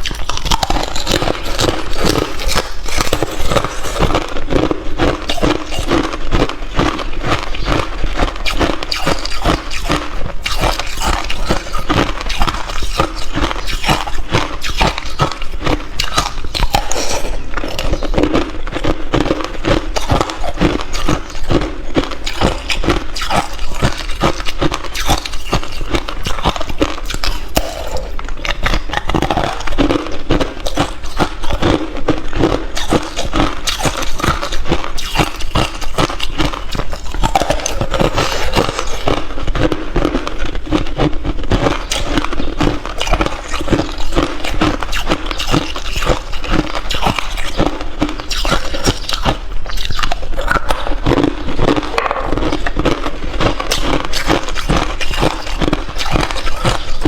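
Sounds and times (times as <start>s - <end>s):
person chewing ice: 0.0s - 57.0s.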